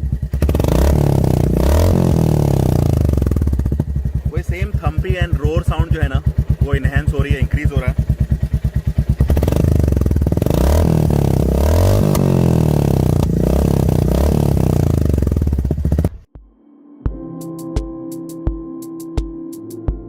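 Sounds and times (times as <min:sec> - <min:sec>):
motorcycle engine revving: 0:00.0 - 0:16.3.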